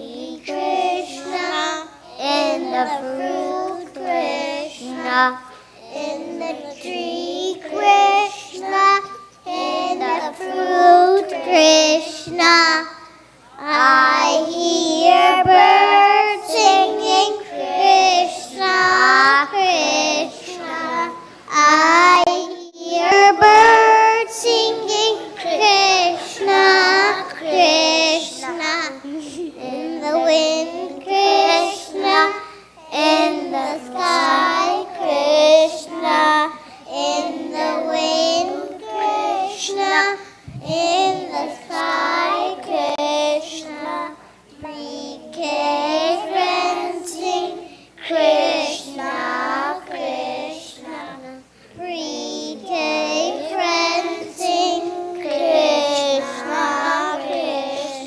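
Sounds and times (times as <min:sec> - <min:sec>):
children singing in unison: 0:00.0 - 0:13.0, 0:13.6 - 0:58.0.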